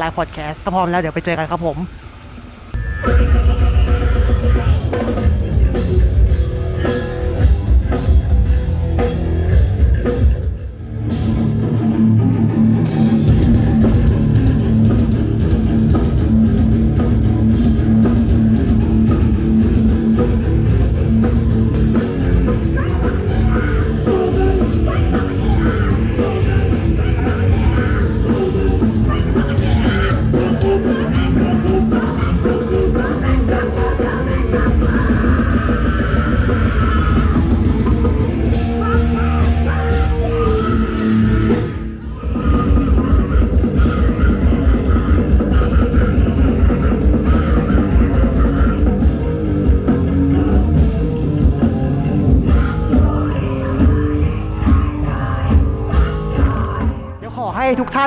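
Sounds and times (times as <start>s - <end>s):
electric guitar: 0.0s - 58.0s
drum kit: 2.7s - 57.5s.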